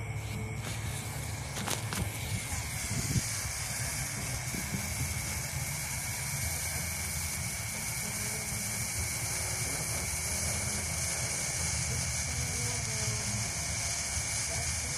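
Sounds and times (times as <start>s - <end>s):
firework stick hissing: 0.0s - 14.9s.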